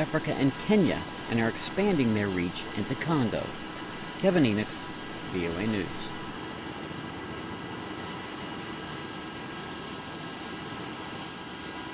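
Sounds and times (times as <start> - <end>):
helicopter engine running: 0.0 - 11.9.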